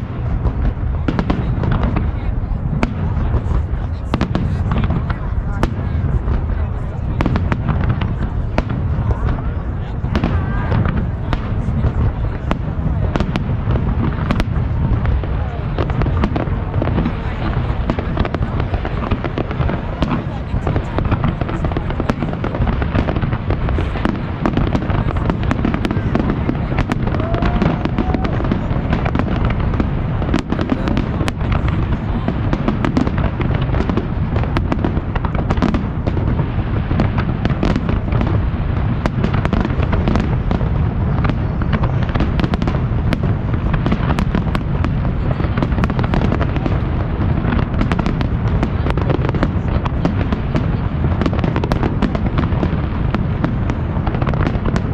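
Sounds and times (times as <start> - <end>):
firework cracks and pops: 0.0 - 54.9
fireworks booming: 0.0 - 54.9.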